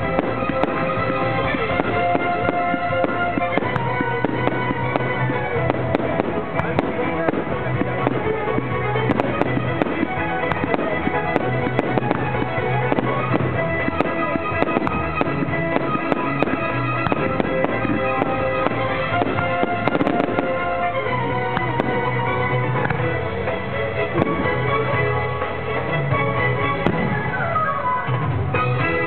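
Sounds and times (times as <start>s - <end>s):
fireworks bangs and pops: 0.0s - 29.0s
music: 0.0s - 29.0s.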